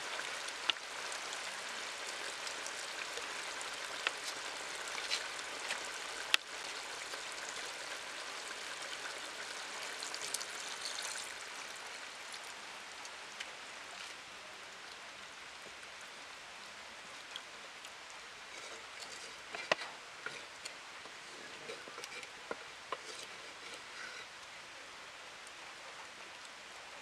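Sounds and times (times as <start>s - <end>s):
curry bubbling at a boil: 0.0s - 16.0s, 16.8s - 27.0s.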